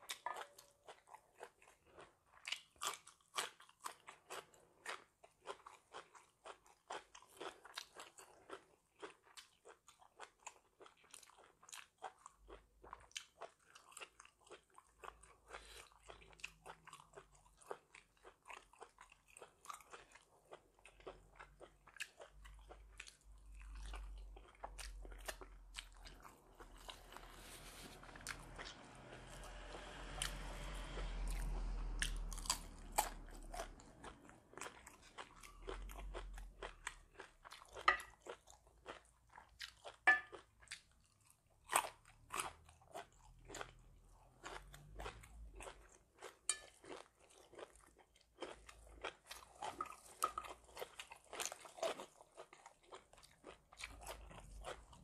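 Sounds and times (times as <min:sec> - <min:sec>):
person chewing crunchy greens: 0:00.0 - 0:55.0.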